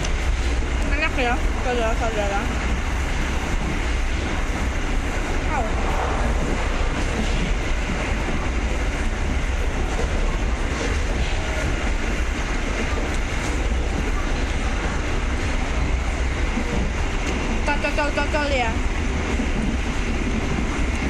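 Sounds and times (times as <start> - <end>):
train rumbling from inside carriage: 0.0 - 21.0.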